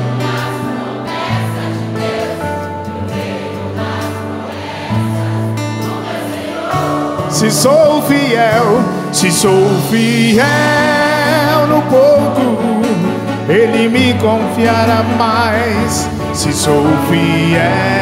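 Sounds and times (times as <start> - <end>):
lead voice singing: 0.0 - 18.0
many voices singing: 0.0 - 18.0
worship band with guitars: 0.0 - 18.0.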